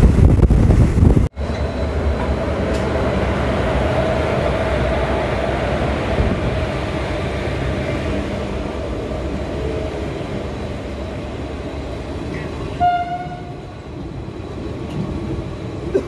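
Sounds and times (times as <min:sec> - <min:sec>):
train rail running noise: 0:00.0 - 0:16.0
constant drone: 0:00.3 - 0:16.0.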